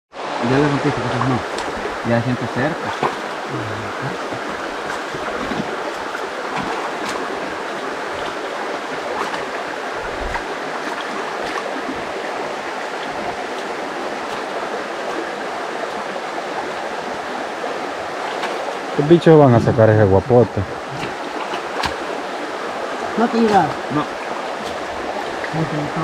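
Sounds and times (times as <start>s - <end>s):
creek water running: 0.1s - 26.0s.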